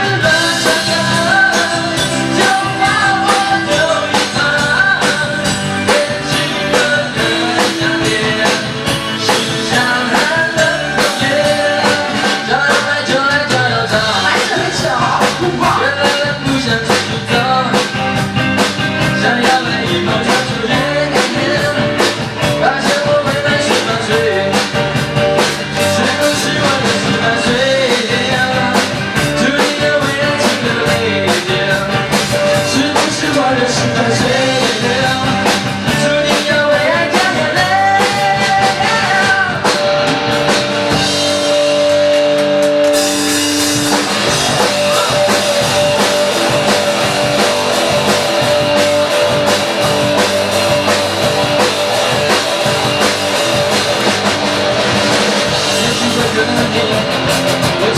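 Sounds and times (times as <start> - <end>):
person singing: 0.0 - 40.3, 43.9 - 54.0, 55.4 - 57.9
drum kit with cymbals: 0.0 - 57.9
electric guitar: 0.0 - 57.9.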